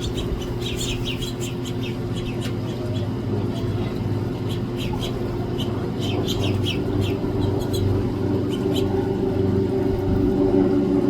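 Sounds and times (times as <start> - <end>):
small birds chirping: 0.0 - 10.5
low mechanical hum: 0.0 - 11.0.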